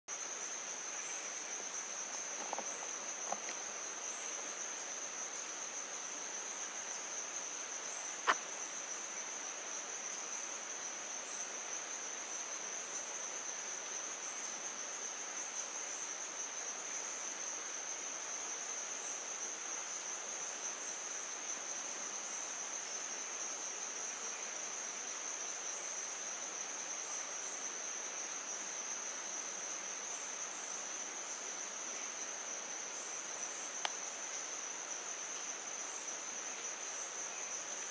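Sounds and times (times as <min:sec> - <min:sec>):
insects trilling: 0:00.1 - 0:37.9.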